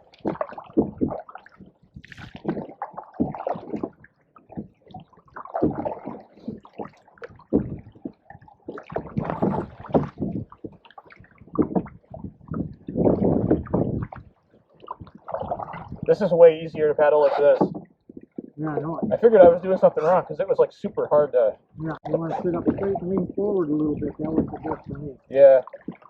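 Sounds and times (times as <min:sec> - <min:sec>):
paddles splashing in water: 0:00.0 - 0:26.0.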